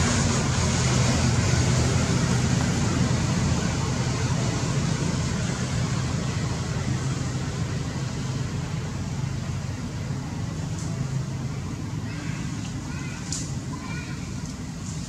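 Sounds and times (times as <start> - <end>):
rumble and hiss of traffic: 0.0 - 15.0.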